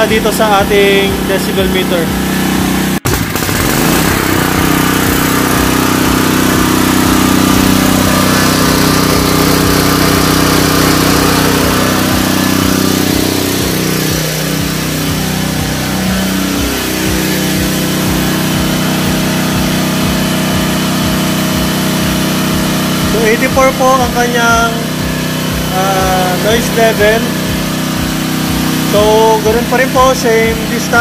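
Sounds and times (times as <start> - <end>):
generator engine drone: 0.0 - 31.0.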